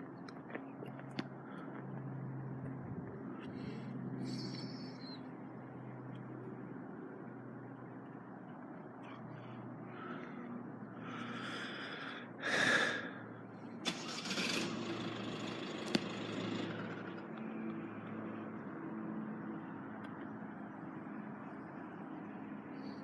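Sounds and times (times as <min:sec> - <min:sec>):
traffic engine hum: 0:00.0 - 0:23.0.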